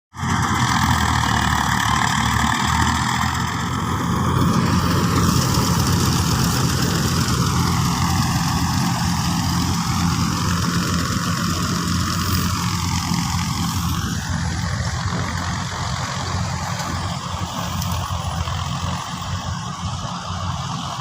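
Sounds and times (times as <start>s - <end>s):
diesel tractor engine running: 0.1s - 21.0s.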